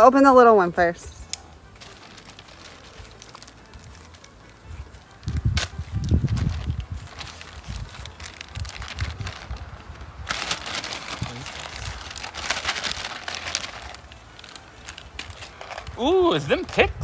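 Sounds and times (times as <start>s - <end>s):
plastic bag crinkling and tearing: 1.7s - 17.0s.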